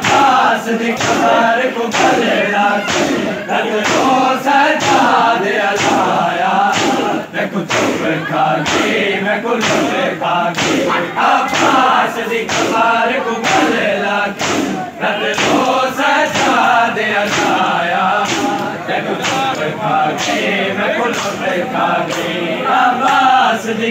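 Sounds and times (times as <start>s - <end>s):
men chanting together: 0.0s - 23.9s
men slapping chests in unison: 0.0s - 23.9s.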